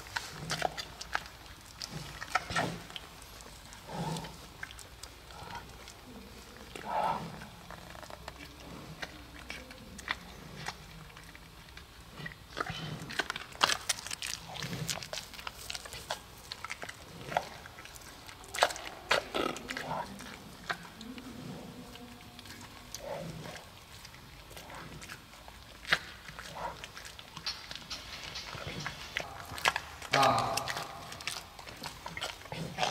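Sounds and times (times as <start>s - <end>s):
panda chewing and smacking: 0.0s - 32.9s.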